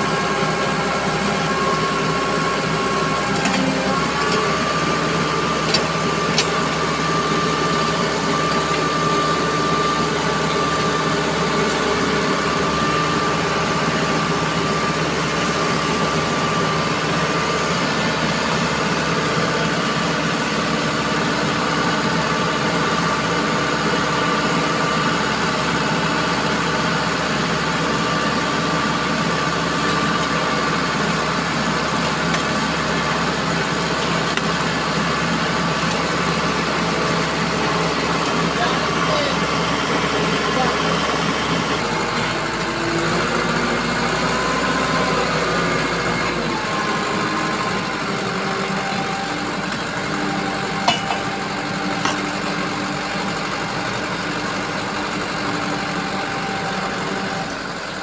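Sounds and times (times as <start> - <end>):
hydraulic auger engine hum: 0.0 - 58.0
hydraulic whine: 0.0 - 58.0.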